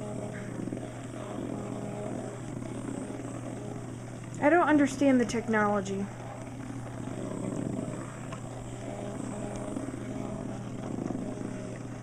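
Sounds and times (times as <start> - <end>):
toy bugs buzzing and rattling: 0.0 - 12.0.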